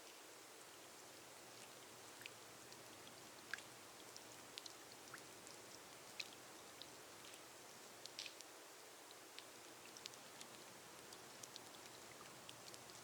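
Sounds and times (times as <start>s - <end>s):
rain on a glass roof: 0.0s - 13.0s.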